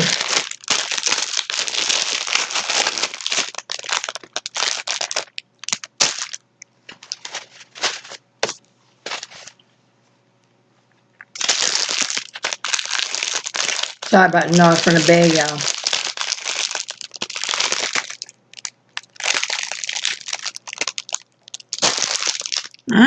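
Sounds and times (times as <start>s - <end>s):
plastic snack bag crinkling: 0.0s - 9.6s, 11.2s - 22.9s.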